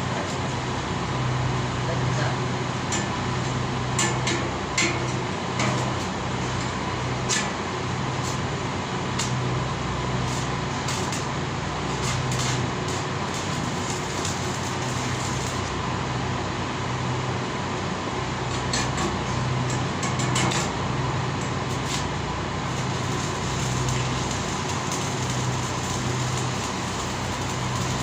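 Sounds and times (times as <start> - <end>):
mechanical hum of equipment: 0.0 - 28.0.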